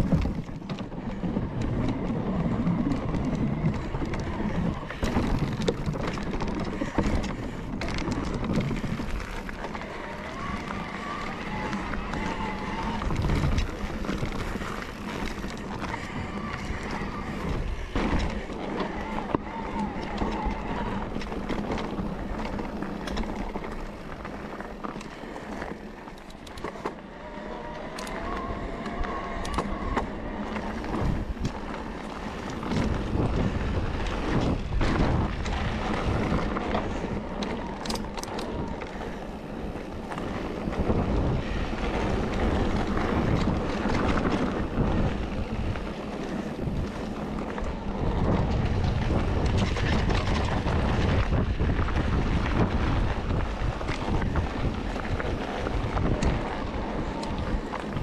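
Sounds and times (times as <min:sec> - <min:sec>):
bike knocking and rattling: 0:00.0 - 0:58.0
bike tyres rolling on rough ground: 0:00.0 - 0:58.0.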